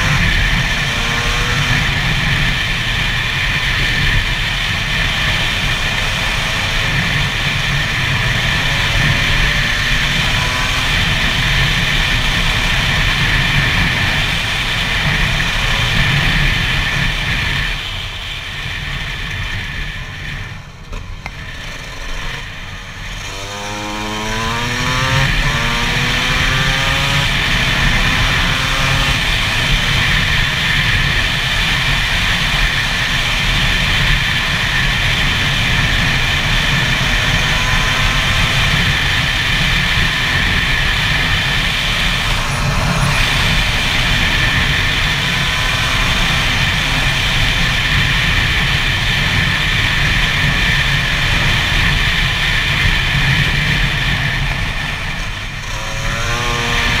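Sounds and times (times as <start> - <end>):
motorcycle engine accelerating: 0.0 - 57.0
wind rumble on microphone: 0.0 - 57.0.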